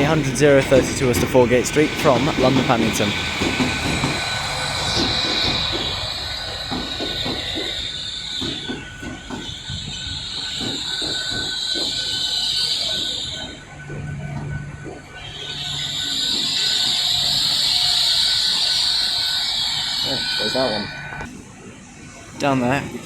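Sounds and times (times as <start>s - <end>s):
train wheels squealing: 0.0s - 21.3s.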